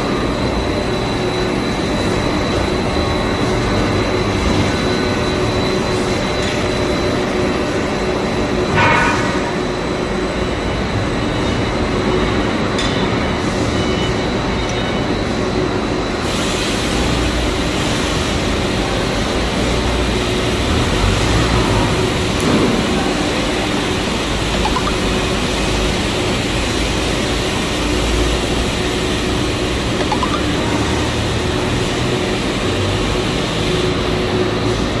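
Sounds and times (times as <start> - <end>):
factory machinery running: 0.0 - 35.0.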